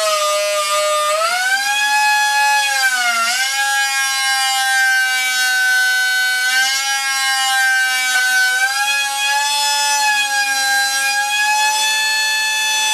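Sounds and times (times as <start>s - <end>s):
cutter motor whining: 0.0s - 12.9s.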